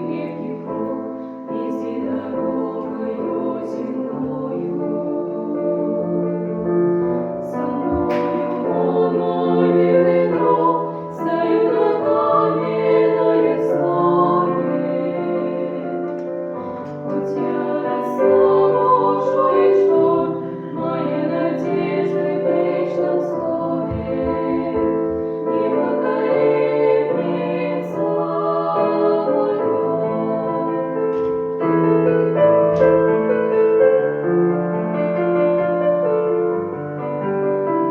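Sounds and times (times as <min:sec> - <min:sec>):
voices singing slow melody: 0:00.0 - 0:31.6
piano accompaniment: 0:00.0 - 0:37.9.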